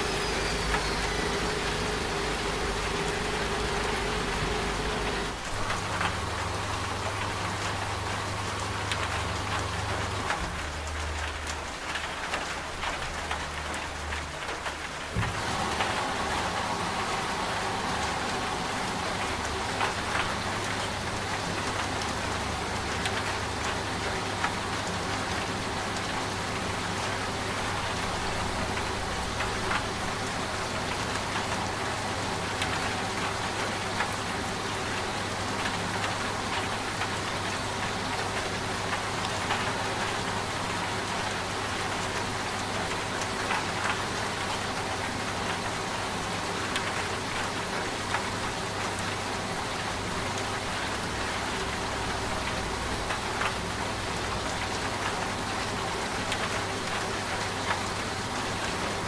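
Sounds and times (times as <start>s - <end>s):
rain patter: 0.0s - 59.0s
sharp raindrop ticks: 0.0s - 59.0s
washing machine humming: 0.0s - 59.0s.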